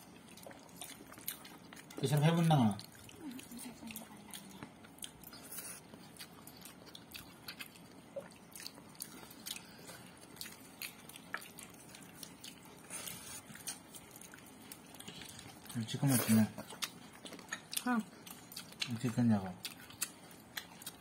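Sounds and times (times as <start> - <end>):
soft chewing: 0.0 - 21.0.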